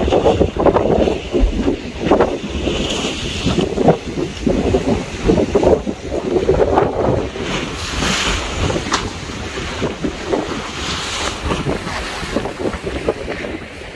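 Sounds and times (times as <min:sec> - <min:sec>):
rough sea waves: 0:00.0 - 0:13.9
wind buffeting microphone: 0:00.0 - 0:13.9.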